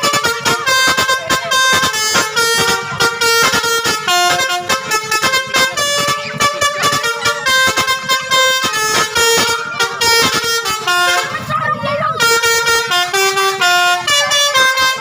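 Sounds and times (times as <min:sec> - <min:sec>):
musical air horn playing tune: 0:00.0 - 0:15.0.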